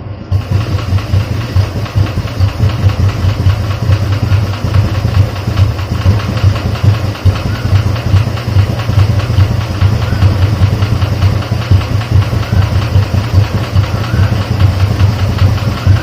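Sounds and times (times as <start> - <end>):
motorcycle engine idling: 0.3 - 16.0.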